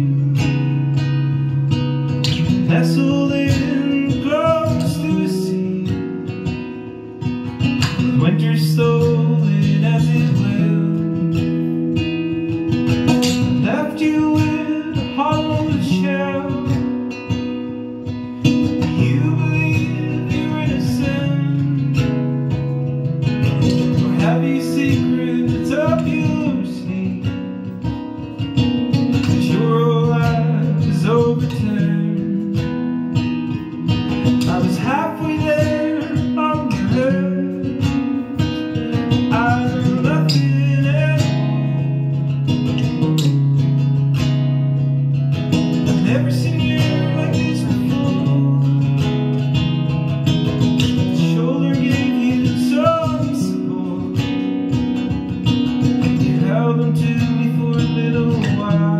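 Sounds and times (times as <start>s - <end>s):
acoustic guitar playing: 0.0s - 58.9s.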